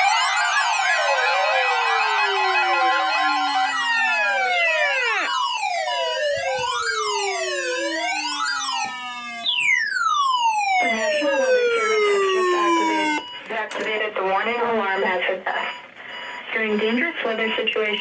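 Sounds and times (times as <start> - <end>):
electronic sirens wailing: 0.0 - 18.0.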